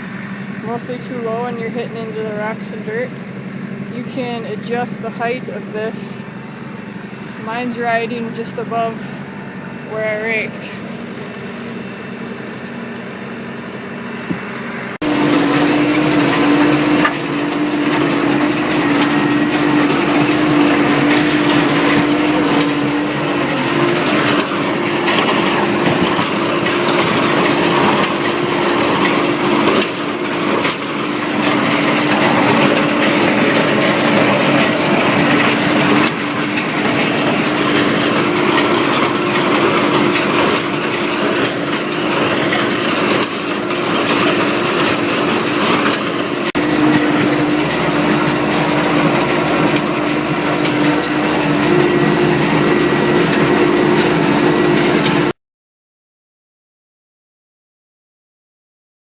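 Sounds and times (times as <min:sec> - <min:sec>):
hay baler running: 0:00.0 - 0:55.4
tractor engine drone: 0:00.0 - 0:55.4.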